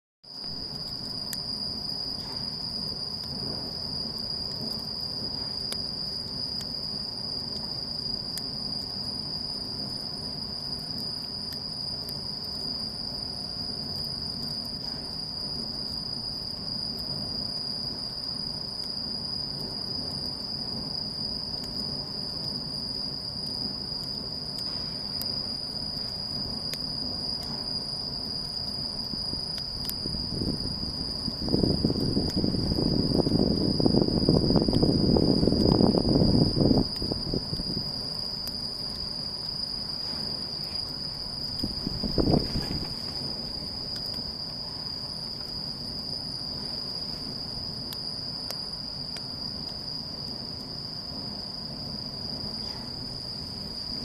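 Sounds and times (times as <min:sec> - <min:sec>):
campfire rumble and crackles: 0:00.3 - 0:54.0
insects trilling: 0:00.3 - 0:54.0.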